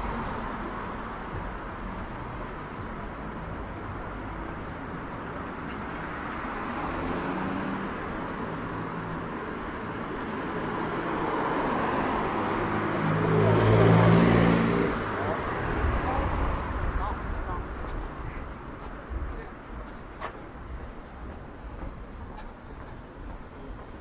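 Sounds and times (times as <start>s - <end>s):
traffic road hum: 0.0s - 24.0s.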